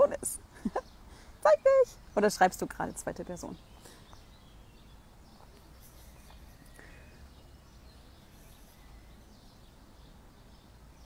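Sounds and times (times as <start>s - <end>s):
distant bird chirps: 0.0s - 11.0s.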